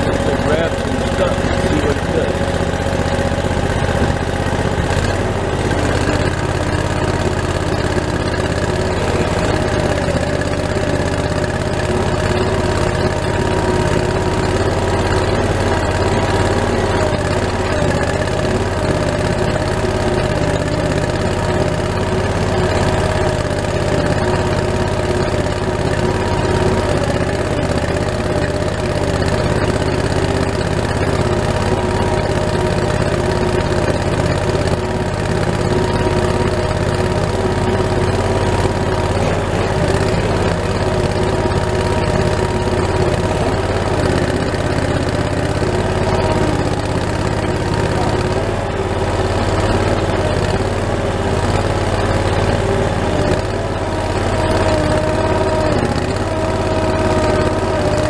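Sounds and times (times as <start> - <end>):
skid steer engine running: 0.0 - 58.0.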